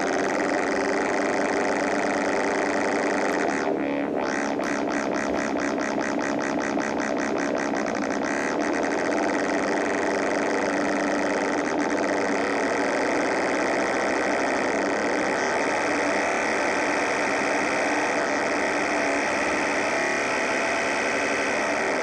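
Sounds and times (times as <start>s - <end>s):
synthesizer buzzing drone: 0.0s - 22.0s.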